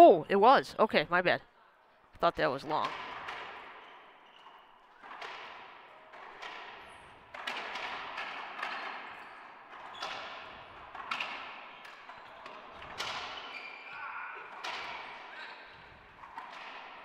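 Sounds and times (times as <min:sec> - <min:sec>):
racquetball smacks echoing: 0:02.7 - 0:13.7, 0:14.4 - 0:17.0.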